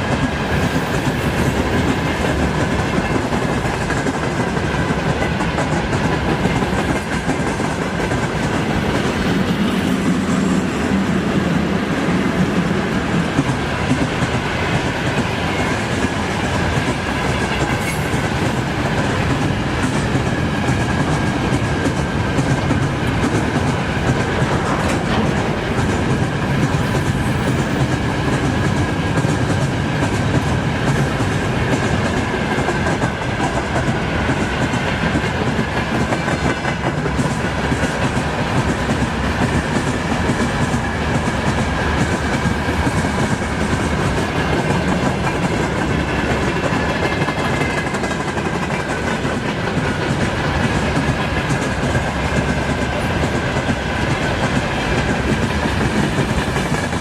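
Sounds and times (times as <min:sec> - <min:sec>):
train cars rolling past: 0:00.0 - 0:57.0.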